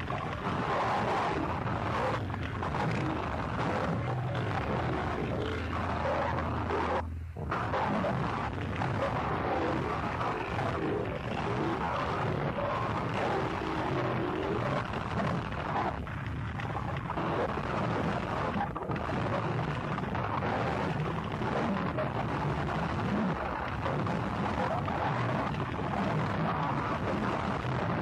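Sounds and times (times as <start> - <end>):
harsh distorted noise: 0.0 - 28.0.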